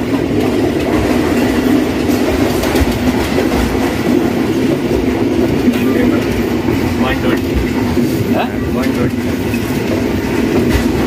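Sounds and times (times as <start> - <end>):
train rumbling on rails: 0.0 - 11.0
wheels clattering over track: 0.0 - 11.0.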